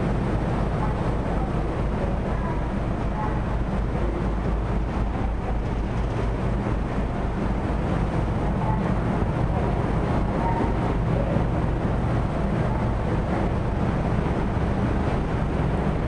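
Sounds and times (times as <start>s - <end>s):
churned water rushing: 0.0s - 16.0s
ship engines rumbling: 0.0s - 16.0s.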